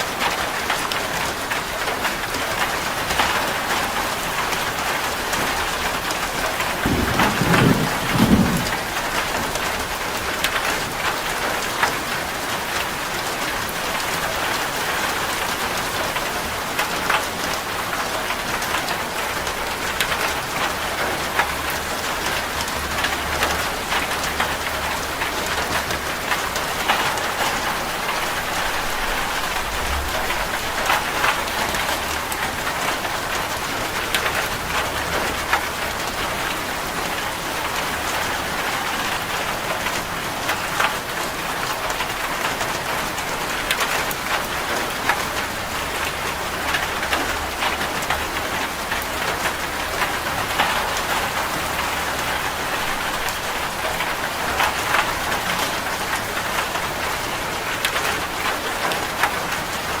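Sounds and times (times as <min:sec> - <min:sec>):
rain drumming on a metal roof: 0:00.0 - 1:00.0.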